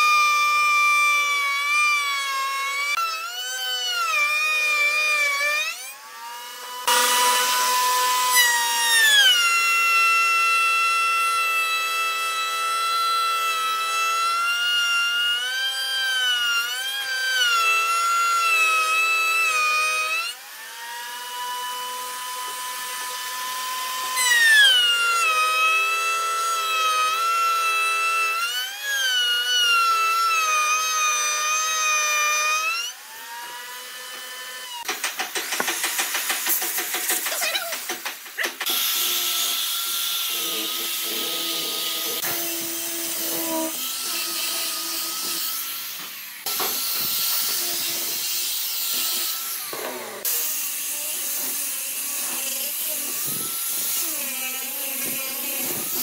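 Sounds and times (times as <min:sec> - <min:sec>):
table saw cutting wood: 0:00.0 - 0:56.0.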